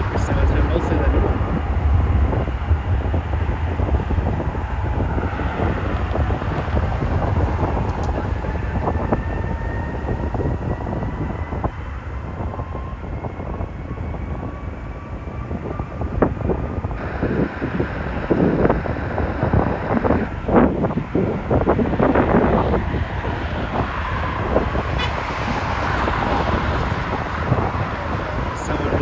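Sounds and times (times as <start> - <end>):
jet engines whining: 0.0 - 29.0
wind rumble on microphone: 0.0 - 29.0.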